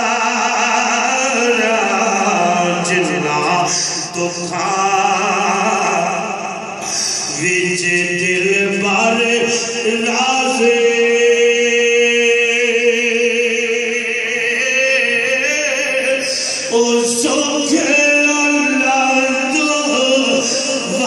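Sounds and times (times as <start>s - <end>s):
man singing chant over loudspeakers: 0.0s - 21.0s.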